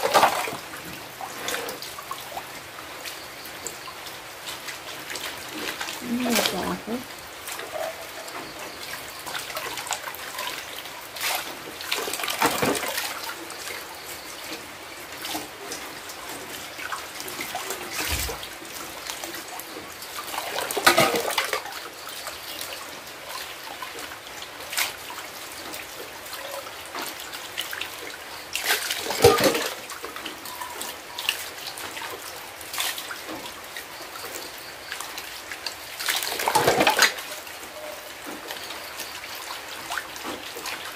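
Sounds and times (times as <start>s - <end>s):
tap water pouring: 0.0s - 40.9s.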